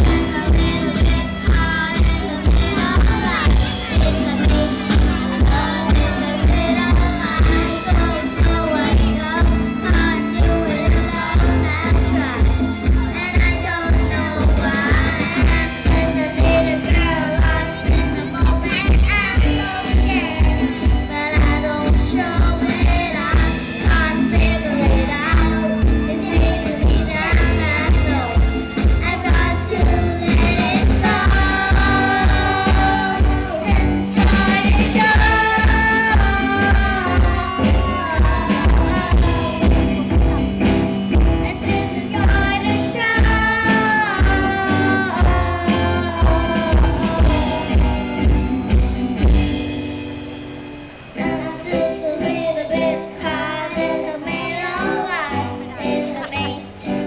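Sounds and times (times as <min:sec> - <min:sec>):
girls singing into microphones: 0:00.0 - 0:49.6, 0:51.2 - 0:57.0
drum kit beat: 0:00.0 - 0:57.0
electric guitar: 0:00.0 - 0:57.0
keyboard: 0:00.0 - 0:57.0.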